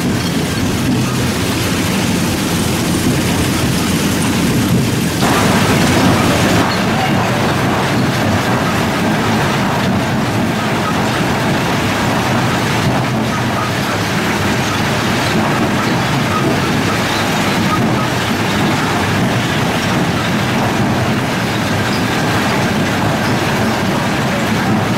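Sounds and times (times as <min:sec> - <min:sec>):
rock crusher running: 0:00.0 - 0:24.9.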